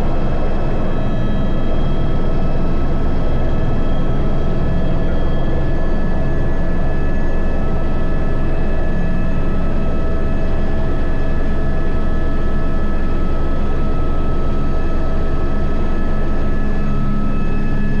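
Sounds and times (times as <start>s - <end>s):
helicopter rotor beat: 0.0s - 18.0s
helicopter turbine whine: 0.0s - 18.0s.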